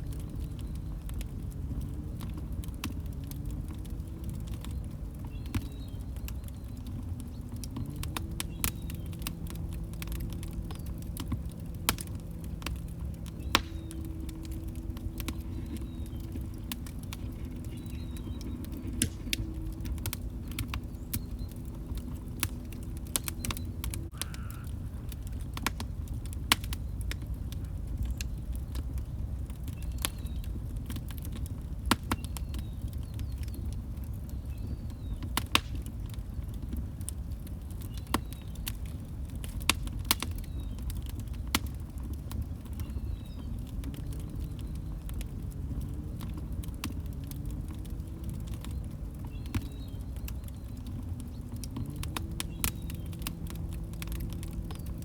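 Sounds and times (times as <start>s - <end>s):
log fire crackling and popping: 0.0s - 55.0s.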